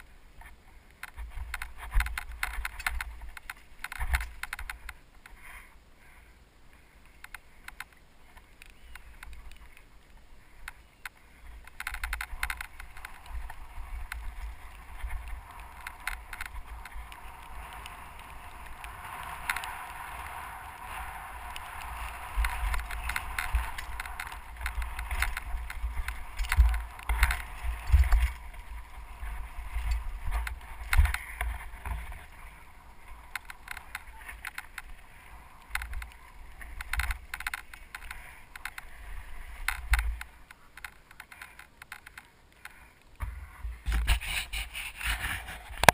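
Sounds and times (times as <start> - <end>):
bike rattling over bumps: 0.0 - 5.6, 10.6 - 44.4.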